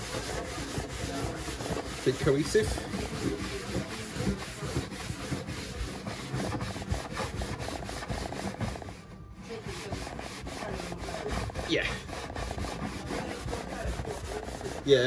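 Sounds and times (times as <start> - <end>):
pad scrubbing wooden worktop: 0.0 - 15.0.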